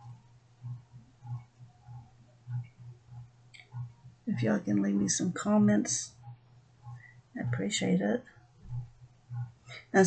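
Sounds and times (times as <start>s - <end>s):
soft low thumps of rug hooking: 0.0s - 9.6s.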